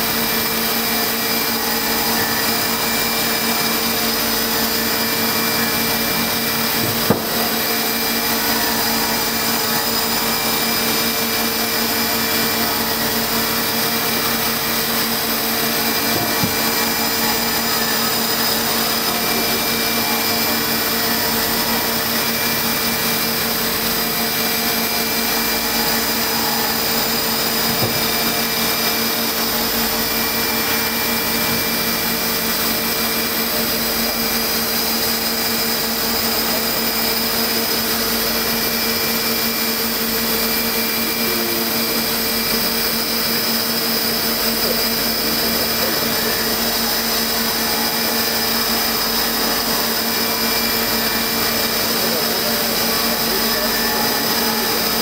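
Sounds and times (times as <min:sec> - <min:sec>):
milling spindle whirring and whining: 0:00.0 - 0:55.0.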